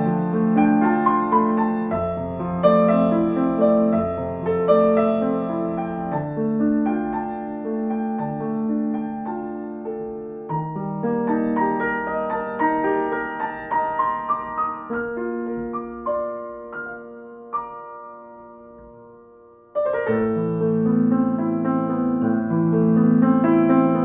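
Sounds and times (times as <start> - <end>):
slow solo piano music: 0.0 - 24.0.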